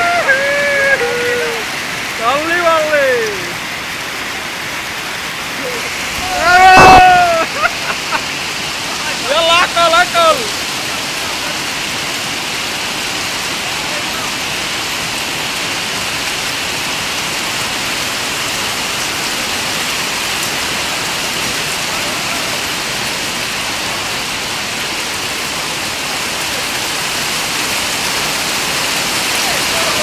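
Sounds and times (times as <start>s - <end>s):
hail and rain on concrete: 0.0s - 30.0s.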